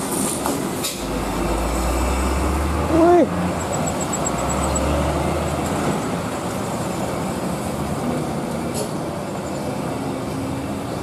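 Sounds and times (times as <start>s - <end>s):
road noise: 0.0s - 11.0s
truck engines droning: 0.0s - 11.0s.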